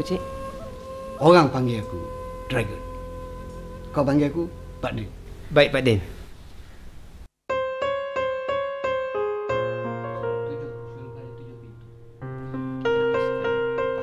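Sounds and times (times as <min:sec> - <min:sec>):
piano music: 0:00.0 - 0:06.2, 0:07.5 - 0:14.0.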